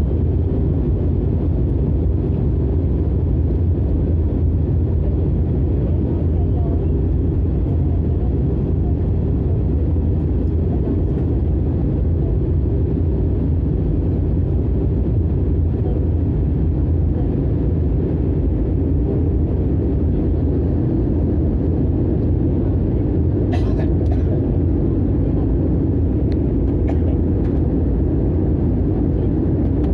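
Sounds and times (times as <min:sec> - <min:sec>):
jet engines and rushing air: 0:00.0 - 0:29.9.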